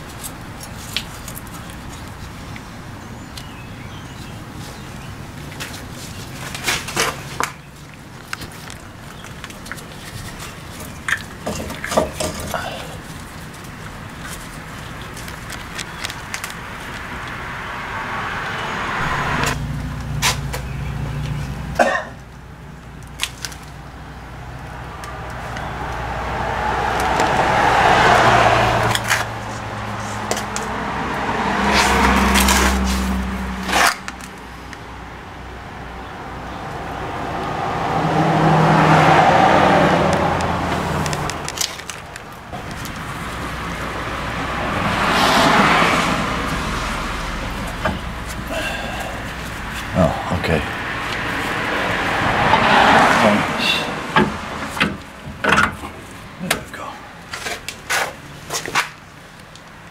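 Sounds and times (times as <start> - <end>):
low engine hum: 0.0 - 57.3
road vehicles passing: 0.0 - 59.9.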